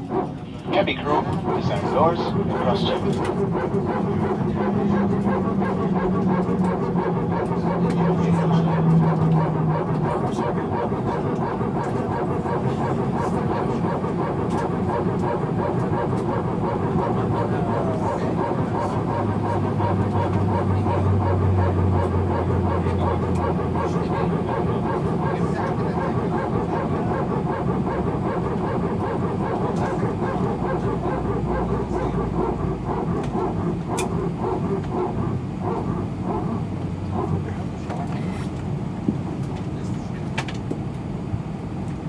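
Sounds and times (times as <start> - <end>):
aircraft cabin hum: 0.0 - 42.0.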